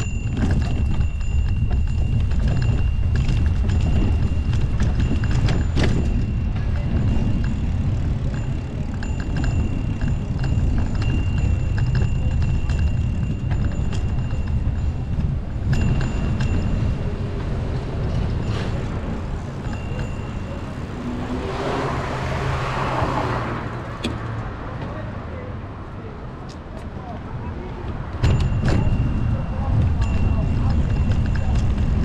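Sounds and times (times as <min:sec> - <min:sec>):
wind rumbling on microphone: 0:00.0 - 0:24.6, 0:26.8 - 0:32.0
road noise: 0:00.0 - 0:32.0.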